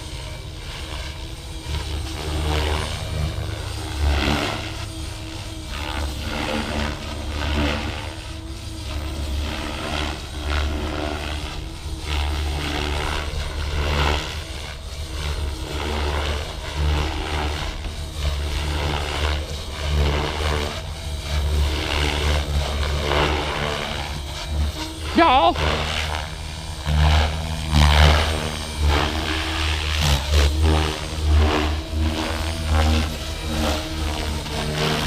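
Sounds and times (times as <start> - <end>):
rc helicopter rotor and motor: 0.0 - 35.0.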